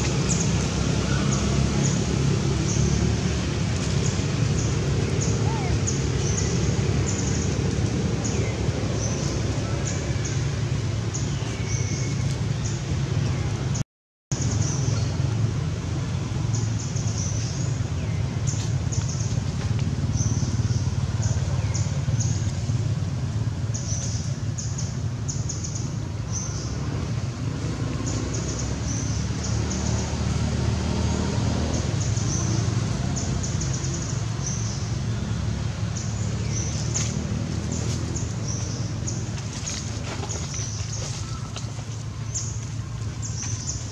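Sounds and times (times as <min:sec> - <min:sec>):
low outdoor rumble: 0:00.0 - 0:43.9.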